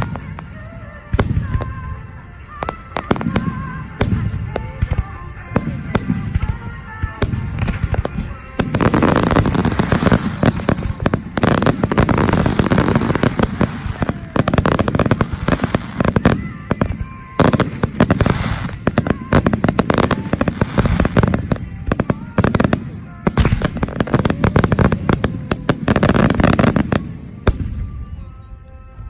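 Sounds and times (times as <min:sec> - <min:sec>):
fireworks bursting and crackling: 0:00.0 - 0:28.2.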